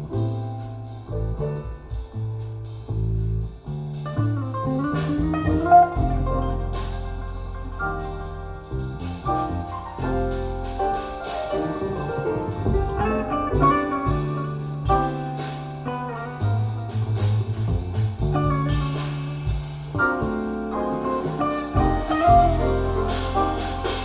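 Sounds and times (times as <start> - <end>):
bass line: 0.0 - 24.0.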